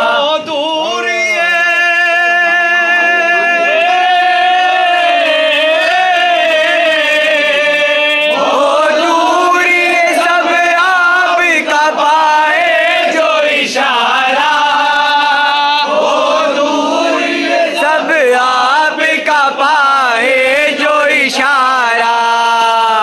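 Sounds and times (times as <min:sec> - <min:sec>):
men singing together: 0:00.0 - 0:23.0.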